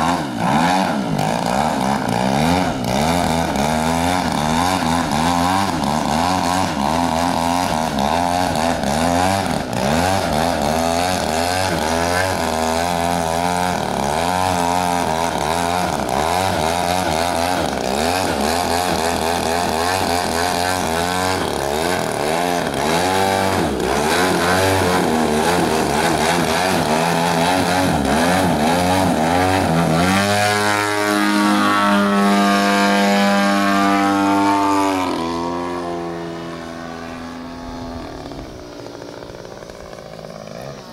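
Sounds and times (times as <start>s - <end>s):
model plane engine and propeller: 0.0s - 40.9s.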